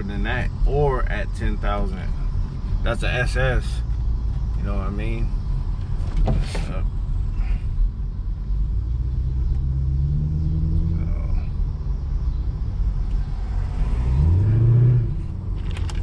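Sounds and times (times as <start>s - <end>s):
car engine rumbling while driving: 0.0s - 16.0s.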